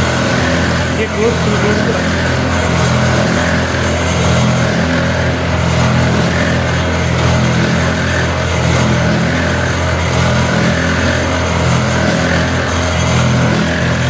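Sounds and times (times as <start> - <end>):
machinery droning: 0.0 - 14.0.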